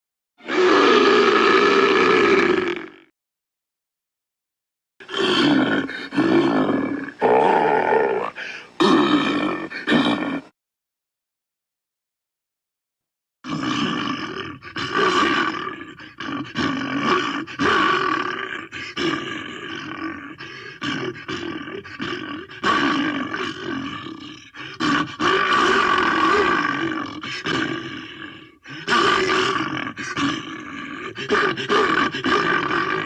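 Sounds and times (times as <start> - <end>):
person making rough roars and grunts: 0.4 - 3.1, 5.0 - 10.6, 13.4 - 33.0.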